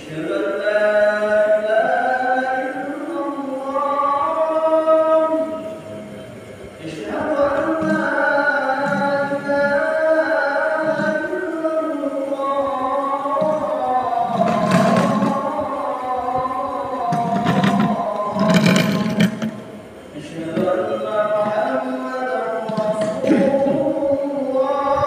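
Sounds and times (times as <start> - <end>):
man chanting melodically: 0.0 - 25.0.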